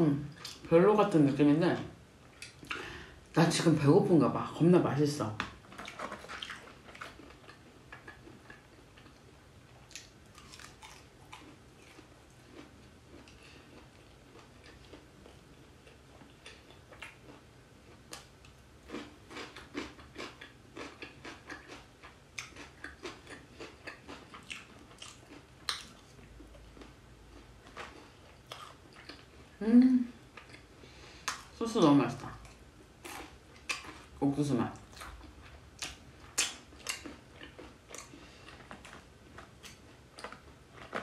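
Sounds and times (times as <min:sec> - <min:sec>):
person chewing food: 0:02.3 - 0:03.2, 0:05.4 - 0:29.6, 0:30.3 - 0:31.6, 0:32.3 - 0:34.2, 0:34.8 - 0:41.0.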